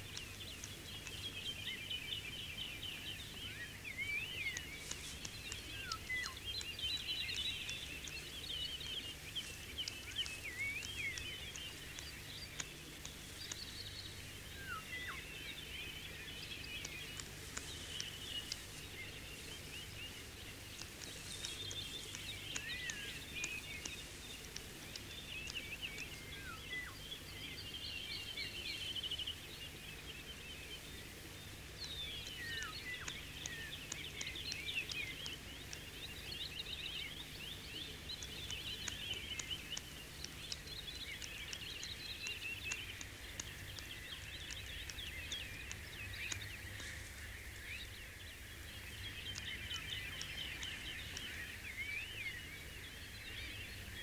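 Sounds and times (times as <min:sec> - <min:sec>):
birds chirping and trilling: 0:00.0 - 0:54.0
faint low hum: 0:00.0 - 0:54.0.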